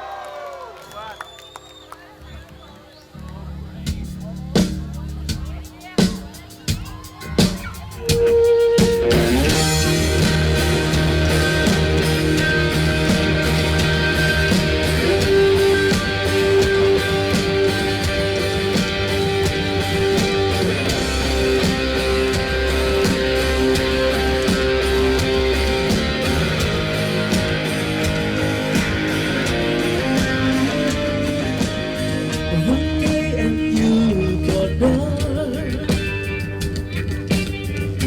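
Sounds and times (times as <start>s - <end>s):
live rock band: 3.9s - 38.0s.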